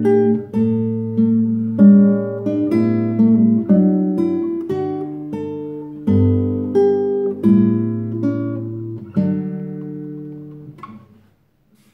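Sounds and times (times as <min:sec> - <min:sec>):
classical guitar playing chords: 0:00.0 - 0:11.9.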